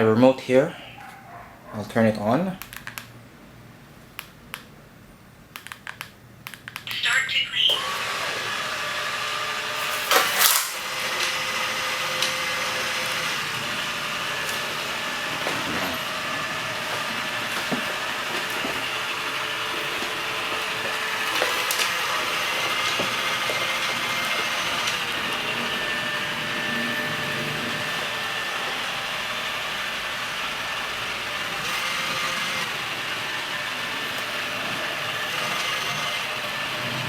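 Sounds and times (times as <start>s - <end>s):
robot vacuum whirring: 6.9s - 37.0s.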